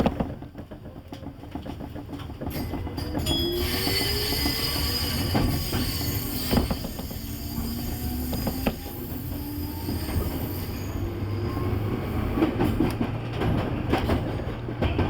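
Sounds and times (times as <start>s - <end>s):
train wheels clacking: 0.0s - 15.0s
train wheels rumbling on rail: 0.0s - 15.0s.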